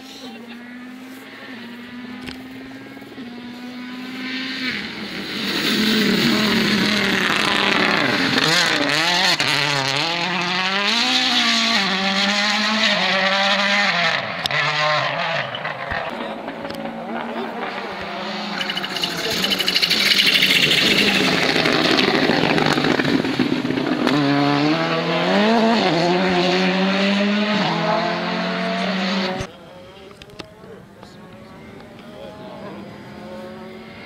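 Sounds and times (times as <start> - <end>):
rally car engine passing at speed: 0.5 - 29.5, 31.6 - 34.0.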